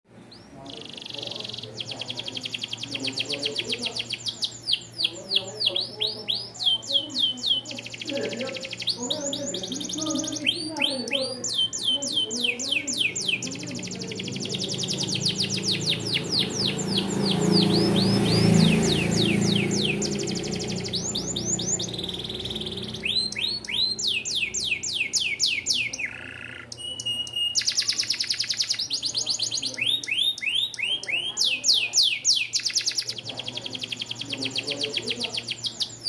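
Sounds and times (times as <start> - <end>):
canary singing trills: 0.2 - 36.0.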